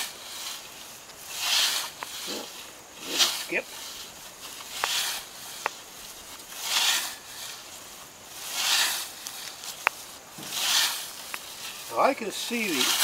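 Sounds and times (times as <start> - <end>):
scythe swishing through grass: 0.0 - 13.0.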